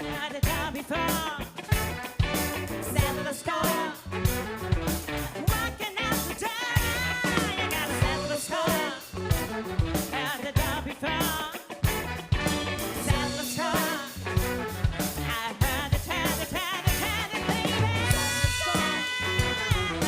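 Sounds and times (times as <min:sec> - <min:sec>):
drum kit steady beat: 0:00.0 - 0:20.0
funk and soul band playing: 0:00.0 - 0:20.0.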